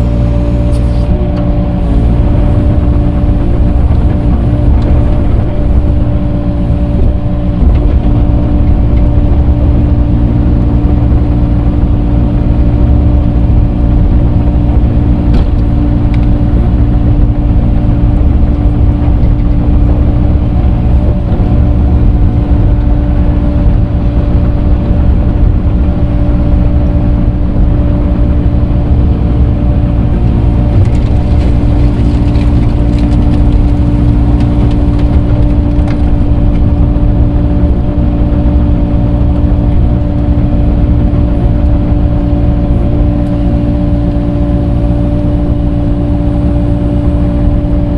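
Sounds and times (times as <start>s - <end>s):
earthmoving machine engine humming: 0.0s - 47.9s.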